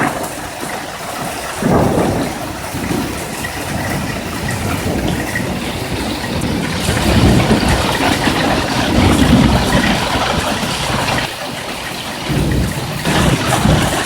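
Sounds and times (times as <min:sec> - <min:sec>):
hail falling: 0:00.0 - 0:14.0
rumble of thunder: 0:00.0 - 0:14.0.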